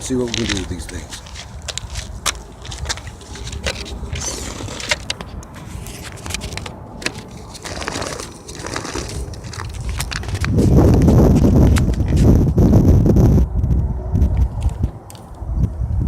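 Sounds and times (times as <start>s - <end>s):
rc car tires scraping on asphalt: 0.0s - 13.4s
low rumble: 1.0s - 16.0s.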